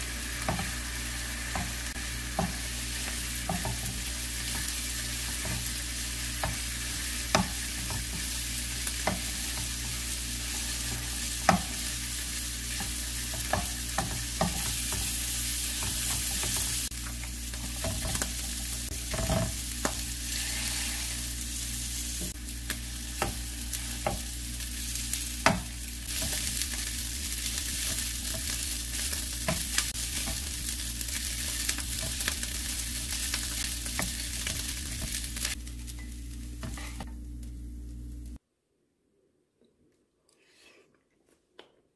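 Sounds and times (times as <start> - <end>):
fried rice sizzling in a pan: 0.0 - 38.4.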